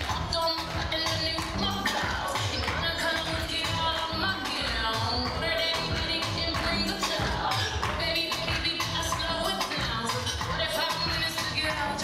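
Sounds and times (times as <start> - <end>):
dance music with steady beat: 0.0 - 12.0.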